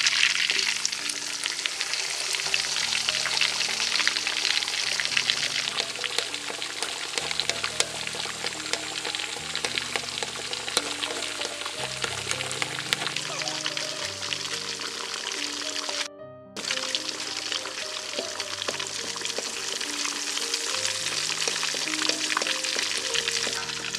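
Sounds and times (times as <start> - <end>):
fish deep-frying with crackling: 0.0 - 23.9.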